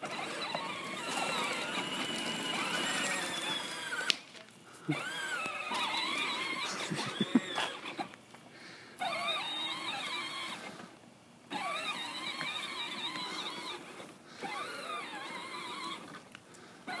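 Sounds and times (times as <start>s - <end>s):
toy tractor motors whining: 0.0s - 8.2s, 9.0s - 17.0s.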